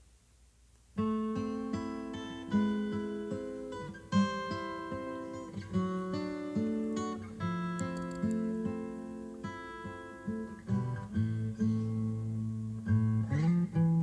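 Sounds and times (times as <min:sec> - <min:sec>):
acoustic guitar music: 0:00.9 - 0:14.0.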